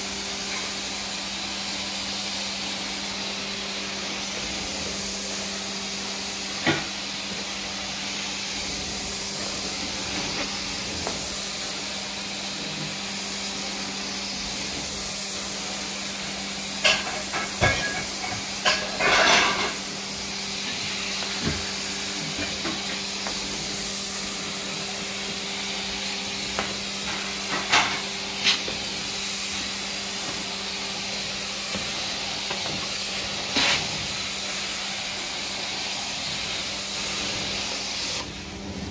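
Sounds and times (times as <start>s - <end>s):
suction hiss: 0.5s - 38.9s.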